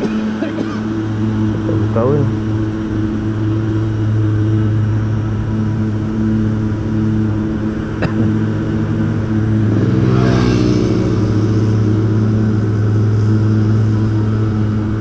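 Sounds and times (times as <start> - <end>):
second engine running: 0.0 - 15.0.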